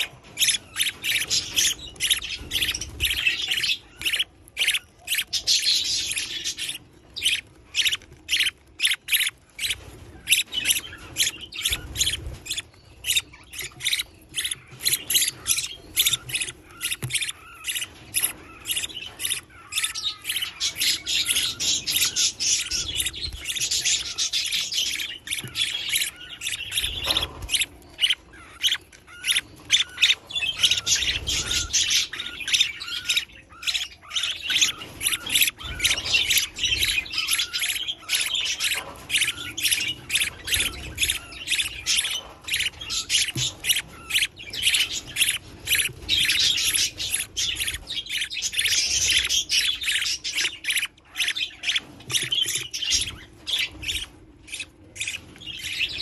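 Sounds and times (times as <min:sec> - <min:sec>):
budgerigar chicks chirping: 0:00.0 - 0:56.0.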